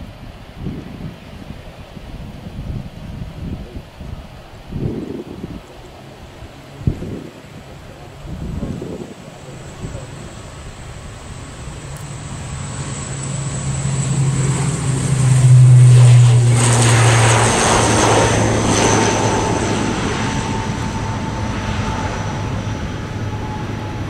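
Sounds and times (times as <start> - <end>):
propeller aircraft drone: 0.0 - 24.0.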